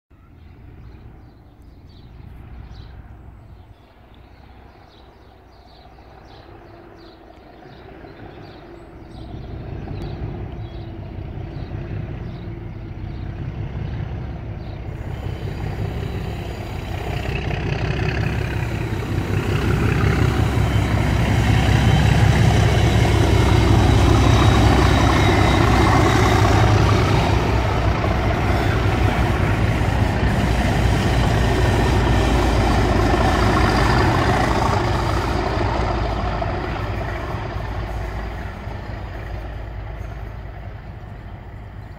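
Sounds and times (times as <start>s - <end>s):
diesel locomotive engine drone: 0.1s - 41.9s.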